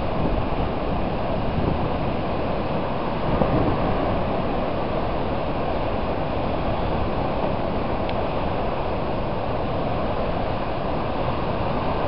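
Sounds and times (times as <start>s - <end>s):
heavy surf breaking: 0.0s - 12.0s
wind buffeting microphone: 0.0s - 12.0s
wind roaring: 0.0s - 12.0s.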